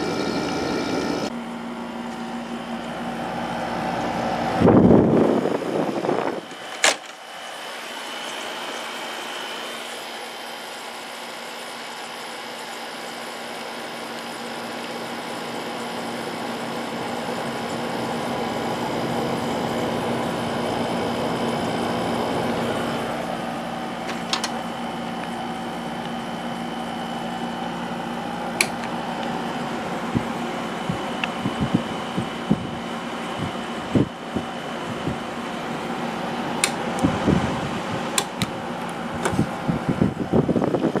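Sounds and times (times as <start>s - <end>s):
air conditioner fan humming: 0.0s - 41.0s.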